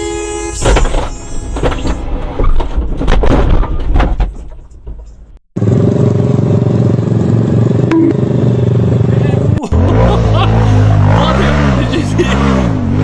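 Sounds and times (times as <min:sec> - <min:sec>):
road and cab noise: 0:00.0 - 0:13.0.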